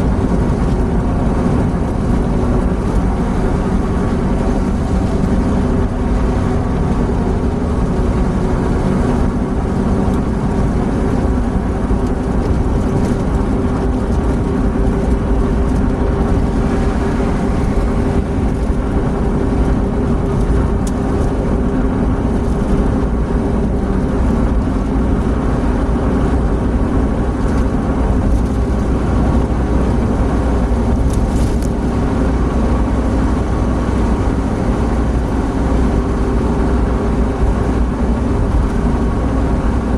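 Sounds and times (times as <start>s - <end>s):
car engine under load: 0.0s - 39.9s
road and wind noise: 0.0s - 39.9s.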